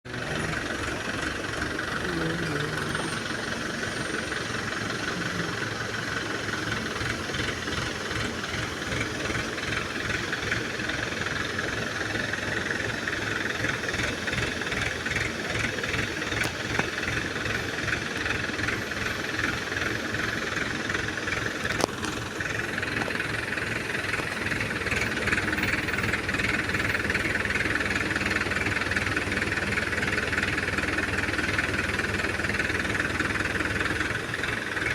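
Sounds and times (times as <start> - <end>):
crane diesel engine running: 0.0 - 34.9
fast continuous rattle: 0.0 - 34.9.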